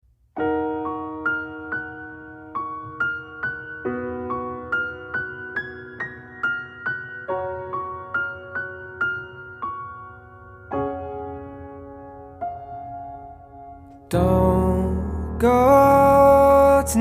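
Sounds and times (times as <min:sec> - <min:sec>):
piano notes over chords: 0:00.3 - 0:17.0.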